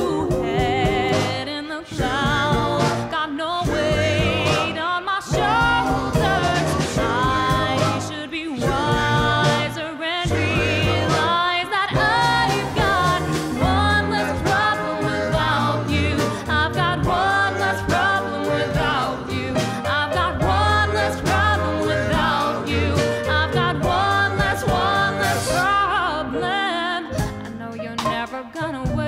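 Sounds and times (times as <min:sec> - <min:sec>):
song with singing and beat: 0:00.0 - 0:29.0.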